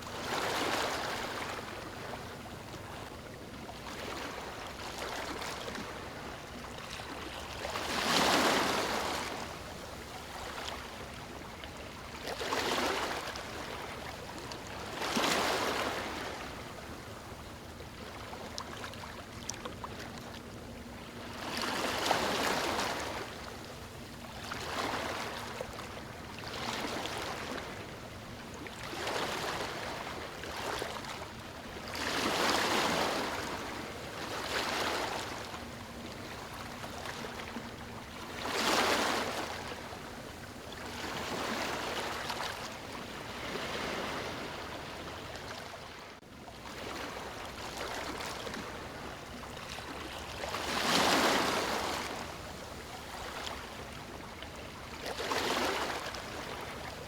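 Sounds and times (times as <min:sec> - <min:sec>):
small waves washing on shore: 0:00.0 - 0:57.0.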